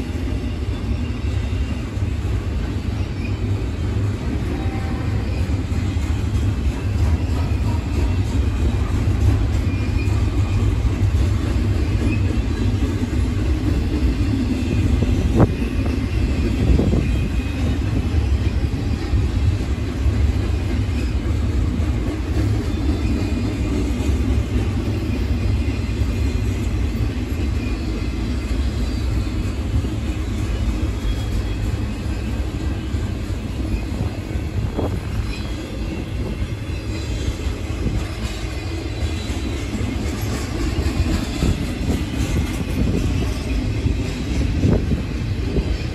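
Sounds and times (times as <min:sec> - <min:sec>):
train knocks: 0:00.0 - 0:45.9
train rumbling on rails: 0:00.0 - 0:45.9.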